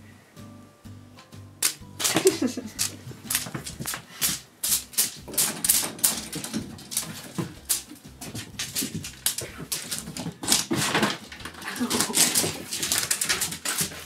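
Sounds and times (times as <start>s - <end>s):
cat paws clattering on floor: 1.6s - 14.0s.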